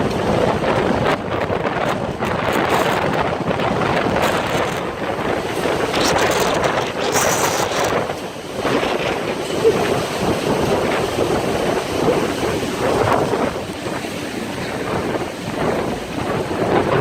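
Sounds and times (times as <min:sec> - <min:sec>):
gusting wind on microphone: 0:00.0 - 0:17.0.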